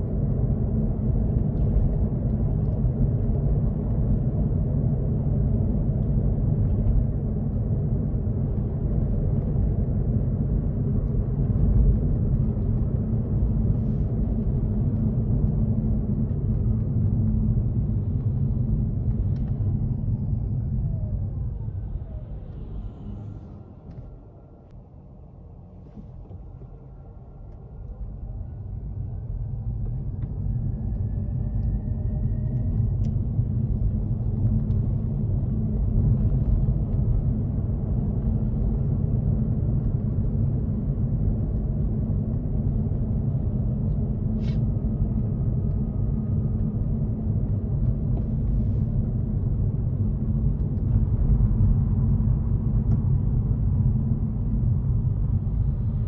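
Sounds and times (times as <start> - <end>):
faint rising whine: 0.0 - 56.0
vehicle engine and road rumble: 0.0 - 56.0.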